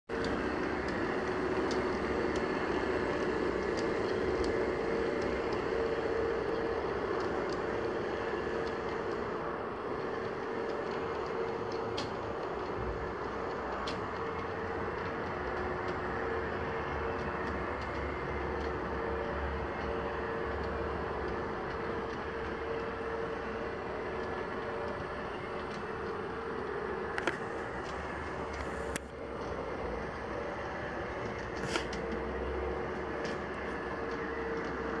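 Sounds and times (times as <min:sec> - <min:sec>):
model train running hum: 0:00.1 - 0:35.0
wheels clicking over rail joints: 0:00.1 - 0:35.0.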